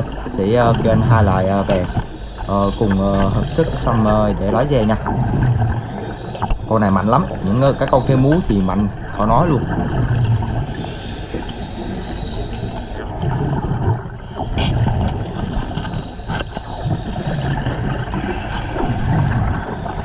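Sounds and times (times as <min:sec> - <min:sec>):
underwater air bubbling: 0:00.0 - 0:20.0.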